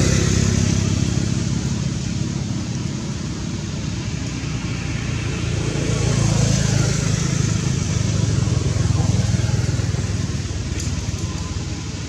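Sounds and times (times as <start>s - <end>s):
low motor rumble: 0.0s - 12.0s.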